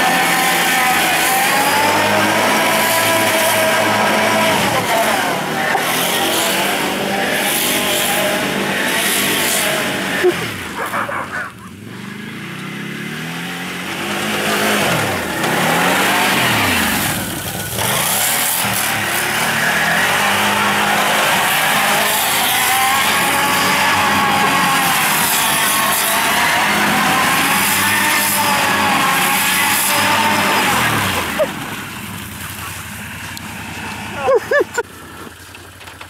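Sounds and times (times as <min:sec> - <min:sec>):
quad bike engine revving: 0:00.0 - 0:36.0.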